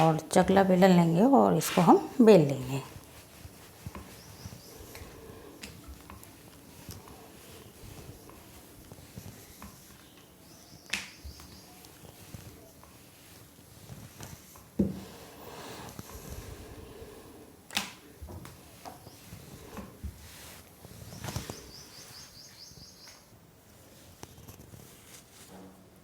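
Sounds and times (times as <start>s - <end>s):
rolling pin rolling dough: 0.0s - 22.4s.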